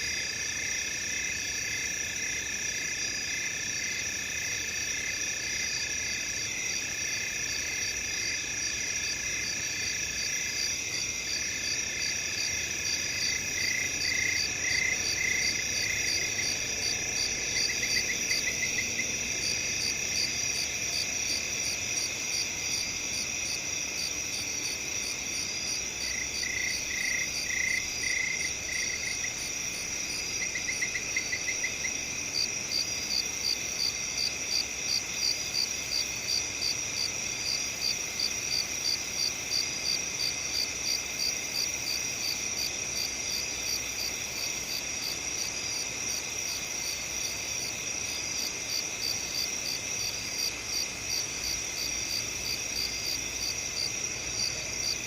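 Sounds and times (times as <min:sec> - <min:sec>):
crickets chirping chorus: 0:00.0 - 0:55.0.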